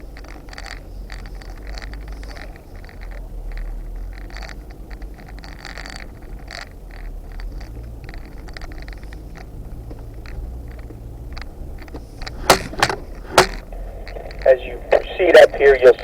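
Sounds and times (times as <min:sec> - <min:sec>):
scrapes and rattles: 0:00.0 - 0:14.5
vehicle engine humming: 0:00.0 - 0:16.0.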